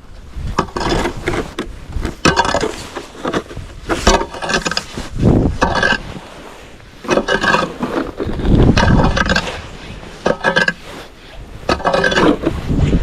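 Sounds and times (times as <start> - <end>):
tool scraping snow and ice: 0.4 - 13.0.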